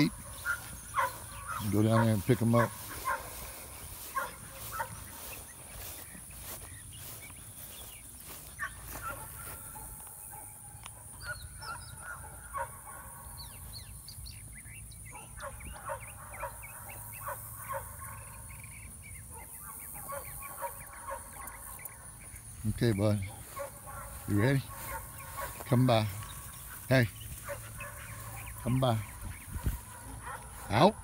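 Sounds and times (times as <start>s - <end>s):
faint bird calls: 0.0s - 30.9s.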